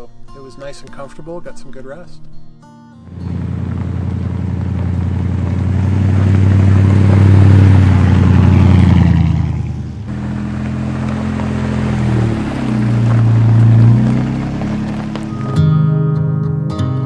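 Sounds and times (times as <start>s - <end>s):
vehicle engine and road noise: 3.1s - 17.0s.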